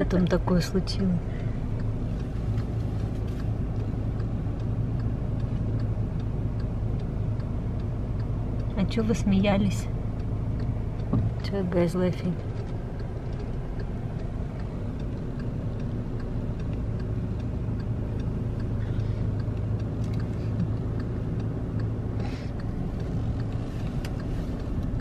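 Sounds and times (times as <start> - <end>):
car engine and tyres humming: 0.0 - 25.0
turn signal ticking: 0.0 - 25.0.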